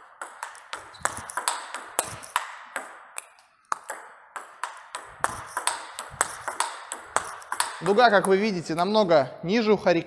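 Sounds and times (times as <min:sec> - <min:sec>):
table tennis ball clicking: 0:00.2 - 0:08.5.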